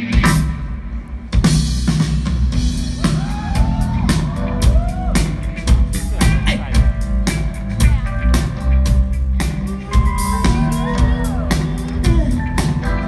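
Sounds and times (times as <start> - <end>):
drum kit beating: 0.0 - 13.0
live band playing: 0.0 - 13.0.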